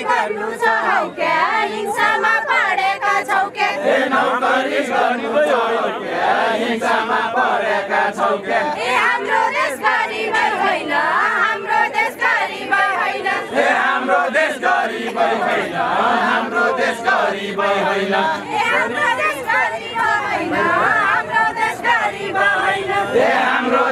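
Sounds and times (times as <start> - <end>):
group singing folk song in chorus: 0.0 - 23.9.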